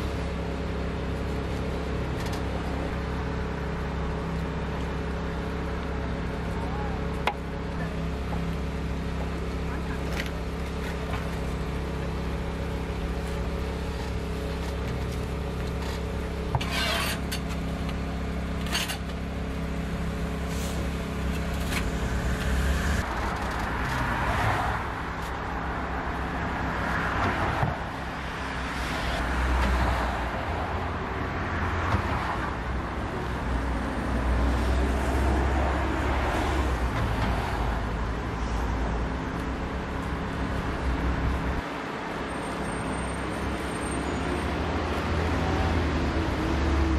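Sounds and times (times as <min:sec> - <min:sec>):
street traffic hum: 0:00.0 - 0:46.9
vehicles passing: 0:00.0 - 0:46.9.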